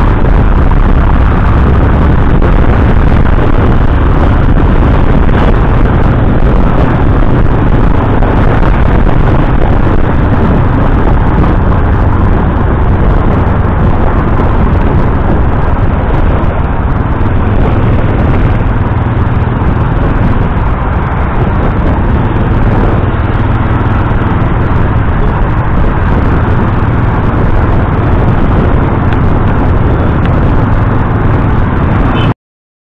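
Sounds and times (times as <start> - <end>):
motorcycle engine running: 0.0 - 32.3
wind and road noise: 0.0 - 32.4.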